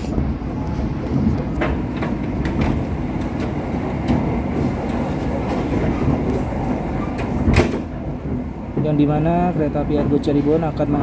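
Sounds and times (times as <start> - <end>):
train wheels rumbling: 0.0 - 11.0
wheels clicking over rail joints: 1.0 - 11.0.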